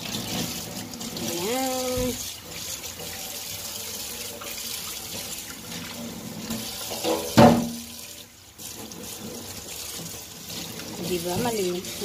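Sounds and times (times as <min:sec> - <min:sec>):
tap water running into sink: 0:00.0 - 0:12.0
sponge wiping sink: 0:00.2 - 0:12.0.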